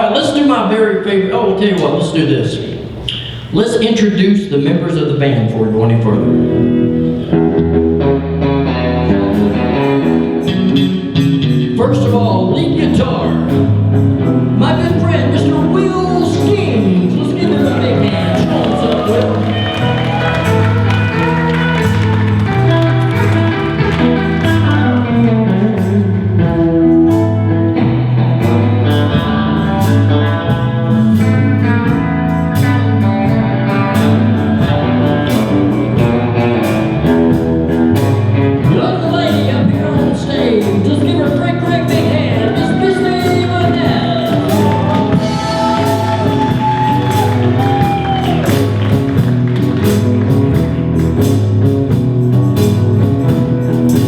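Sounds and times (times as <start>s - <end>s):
live band playing: 2.6s - 54.0s
lead guitar solo: 6.0s - 39.5s, 41.6s - 54.0s.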